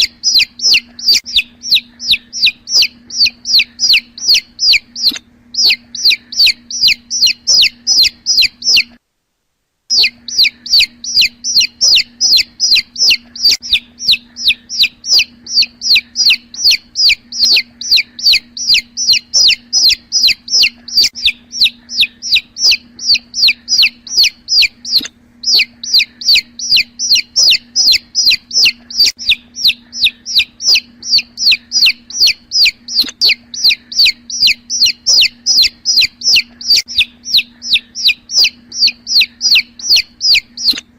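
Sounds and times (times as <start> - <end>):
chicks peeping: 0.0 - 9.0, 9.9 - 40.9
steady low hum: 0.0 - 40.9.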